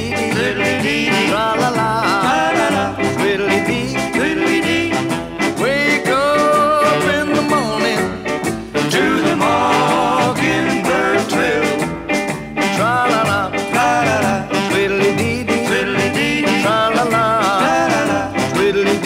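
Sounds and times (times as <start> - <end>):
band playing music: 0.0 - 19.0.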